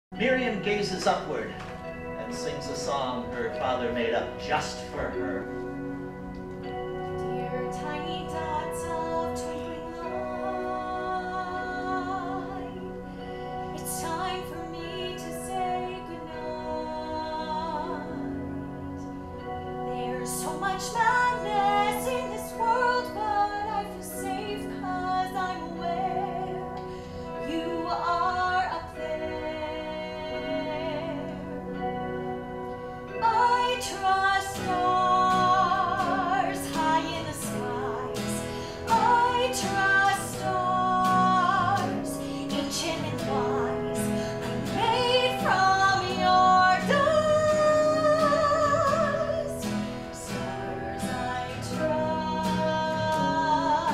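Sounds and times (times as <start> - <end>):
instrumental accompaniment: 0.1 - 53.9
woman singing: 6.7 - 53.9.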